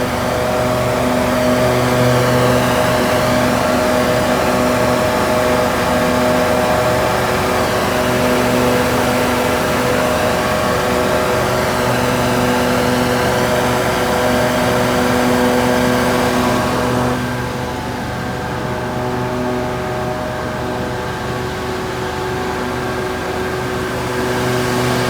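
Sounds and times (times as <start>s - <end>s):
machinery engine droning hum: 0.0s - 25.0s.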